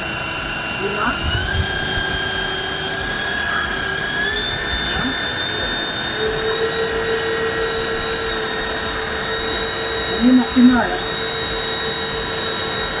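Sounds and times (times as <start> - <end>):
pressure washer motor whine: 0.0 - 13.0.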